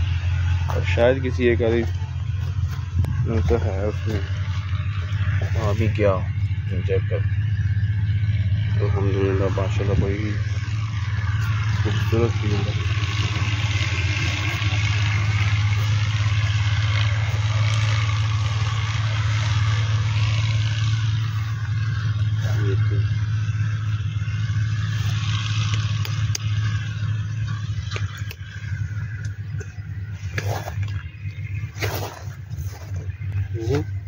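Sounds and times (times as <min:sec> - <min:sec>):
pump engine running: 0:00.0 - 0:34.0.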